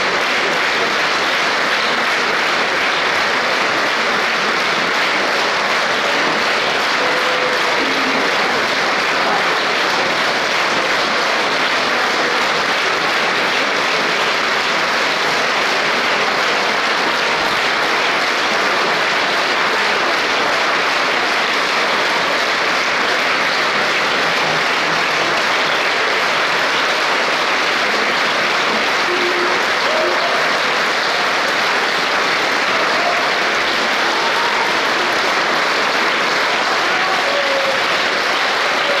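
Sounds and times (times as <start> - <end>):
audience applauding: 0.0 - 39.0.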